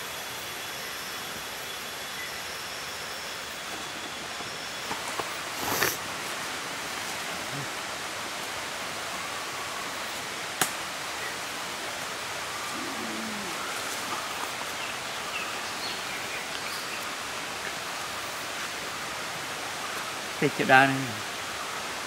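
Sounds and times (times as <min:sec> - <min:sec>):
forest background hiss: 0:00.0 - 0:22.0.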